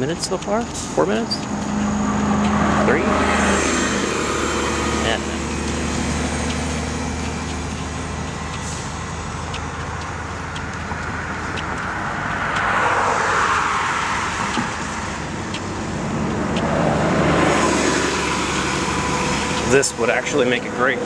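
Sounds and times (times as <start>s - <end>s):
footsteps: 0.0s - 19.9s
car passing: 0.0s - 21.0s
traffic hum: 0.0s - 21.0s.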